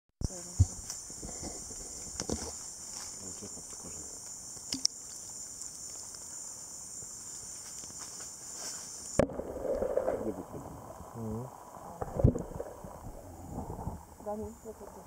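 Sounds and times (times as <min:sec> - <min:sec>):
high-pitched insect chorus: 0:00.2 - 0:15.0.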